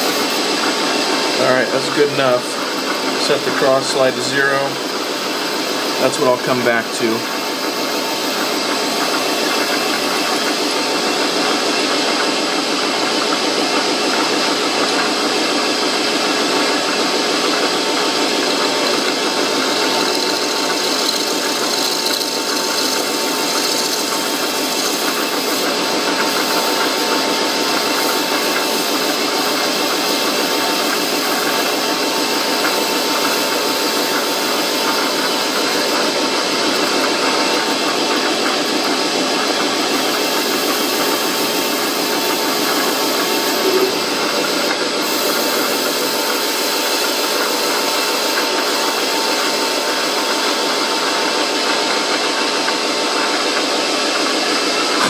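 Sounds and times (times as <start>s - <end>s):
metal lathe whirring: 0.0s - 55.0s.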